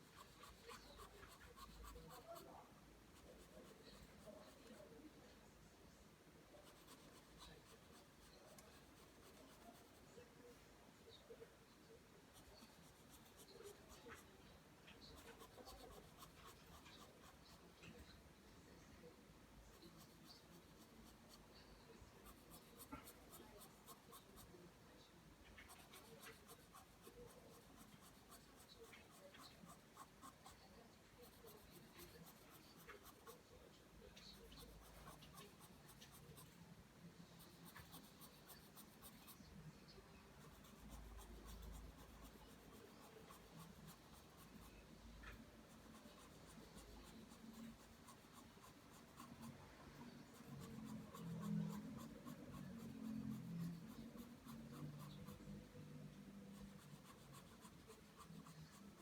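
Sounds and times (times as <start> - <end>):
pencil drawing on paper: 0.0 - 5.0, 6.5 - 10.2, 12.3 - 18.0, 19.7 - 24.6, 25.5 - 36.6, 37.3 - 59.0.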